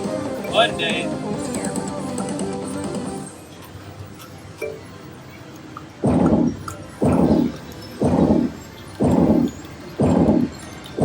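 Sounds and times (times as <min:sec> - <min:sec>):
slot machine electronic game music: 0:00.0 - 0:03.4, 0:04.4 - 0:11.0.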